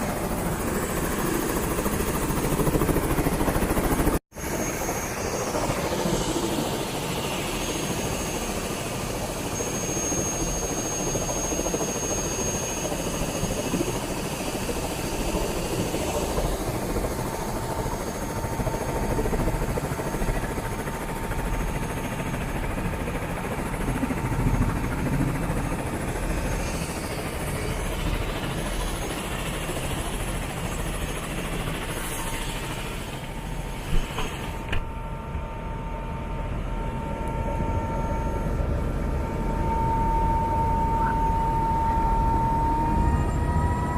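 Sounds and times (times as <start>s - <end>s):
helicopter engine and rotors: 0.0s - 43.9s.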